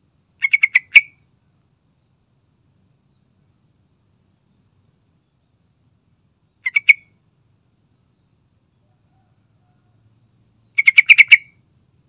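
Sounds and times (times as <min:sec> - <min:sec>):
faint low background rumble: 0:00.0 - 0:12.0.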